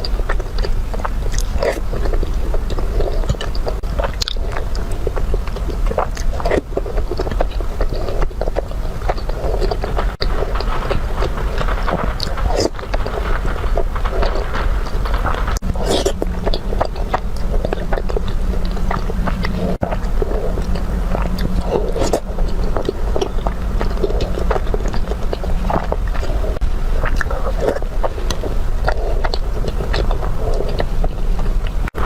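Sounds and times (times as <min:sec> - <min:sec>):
biting and chewing food: 0:00.0 - 0:32.0
steady low hum: 0:00.0 - 0:32.0.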